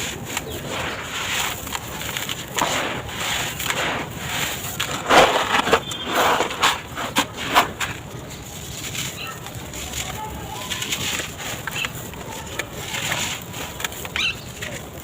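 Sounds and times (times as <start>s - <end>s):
blocks crumbling with gritty crunching: 0.0s - 15.0s.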